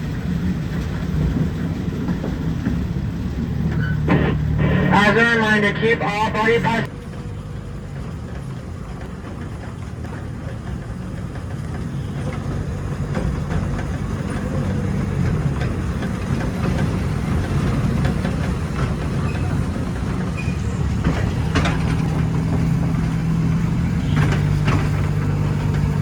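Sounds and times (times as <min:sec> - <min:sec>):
ride train rumbling on track: 0:00.0 - 0:26.0.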